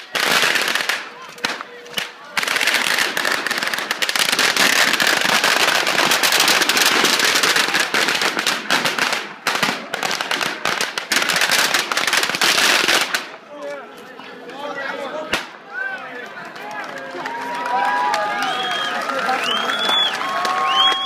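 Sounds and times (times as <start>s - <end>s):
firecrackers crackling: 0.0s - 14.1s, 15.1s - 21.0s.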